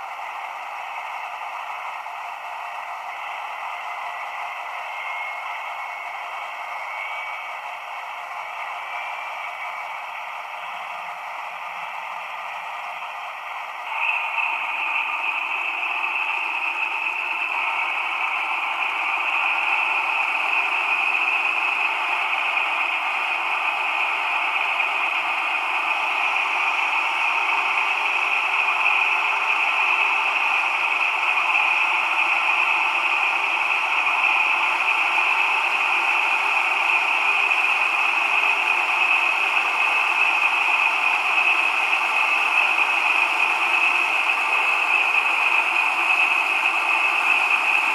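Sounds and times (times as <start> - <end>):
diesel locomotive engine running: 0.0 - 47.9.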